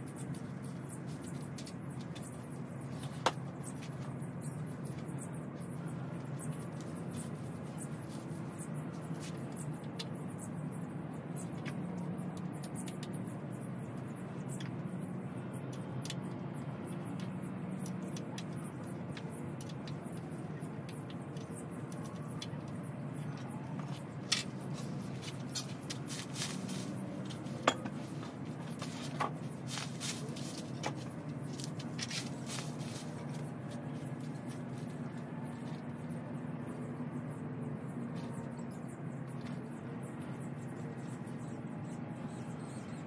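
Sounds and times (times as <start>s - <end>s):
outdoor background: 0.0s - 43.0s.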